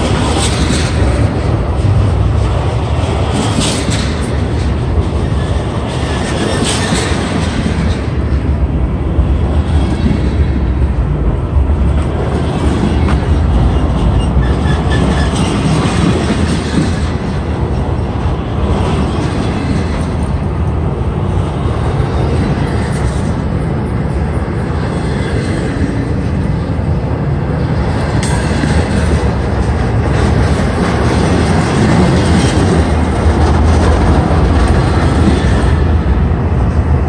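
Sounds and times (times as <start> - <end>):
freight train wheels rumbling on rails: 0.0 - 37.0.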